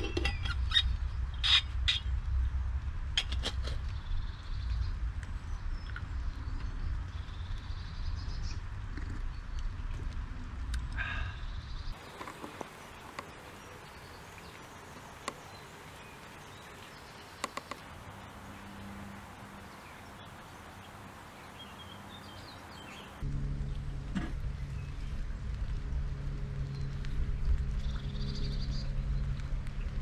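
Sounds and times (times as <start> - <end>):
even outdoor hiss: 0.0 - 30.0
low rumbling noise: 0.0 - 30.0.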